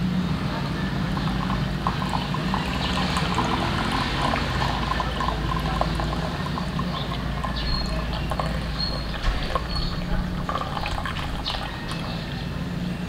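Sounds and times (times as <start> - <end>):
coffee pouring into a mug: 1.1 - 12.1.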